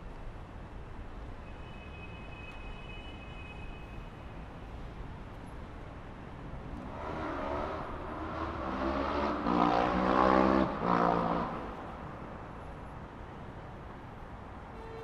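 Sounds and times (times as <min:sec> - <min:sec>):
traffic hum: 0:02.1 - 0:15.0.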